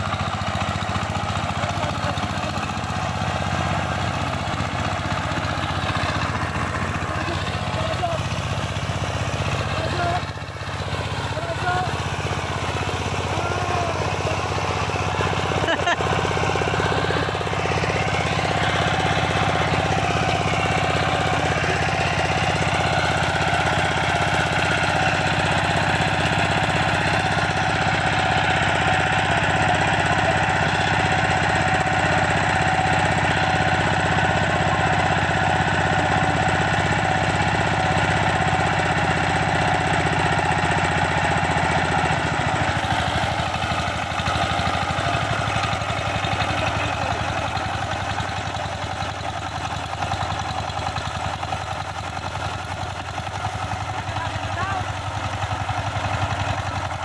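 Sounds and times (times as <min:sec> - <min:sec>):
diesel tiller engine knocking: 0:00.0 - 0:57.0.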